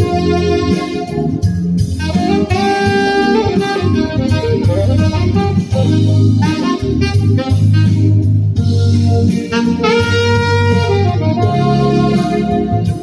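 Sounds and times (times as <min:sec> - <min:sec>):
low bass line: 0:00.0 - 0:13.0
saxophone jazz melody: 0:00.0 - 0:13.0.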